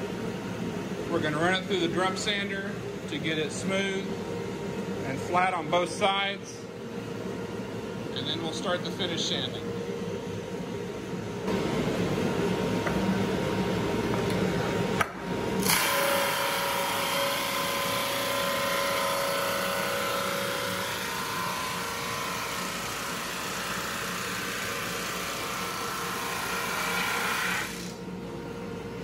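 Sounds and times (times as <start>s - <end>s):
drum sander running: 0.0s - 28.1s.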